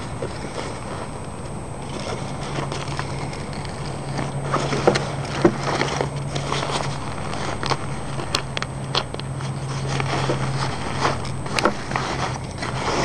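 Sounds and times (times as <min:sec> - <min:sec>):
nylon vest rustling: 0:00.0 - 0:13.0
steady low hum: 0:00.0 - 0:13.0.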